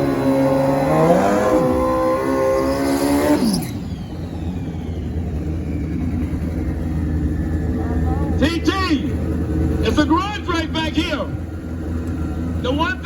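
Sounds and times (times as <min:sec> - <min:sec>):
motorcycles accelerating hard: 0:00.0 - 0:13.0.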